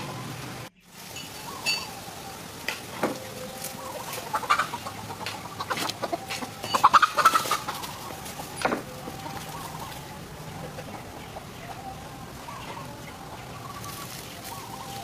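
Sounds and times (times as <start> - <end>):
bird clucking and squawking: 1.4 - 15.0.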